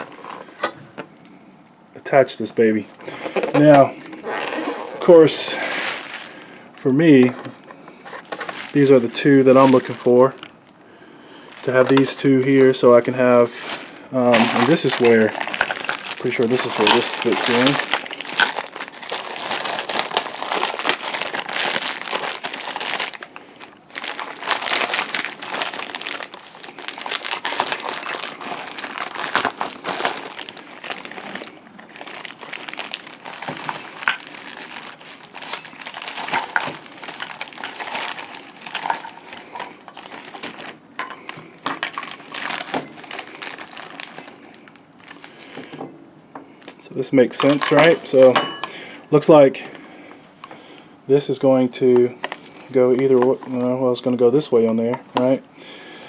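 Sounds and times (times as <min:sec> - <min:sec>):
packaging crinkling and rustling: 0:00.0 - 0:01.2, 0:02.6 - 0:10.8, 0:11.4 - 0:45.7, 0:47.3 - 0:48.4, 0:51.9 - 0:53.8, 0:55.1 - 0:56.0.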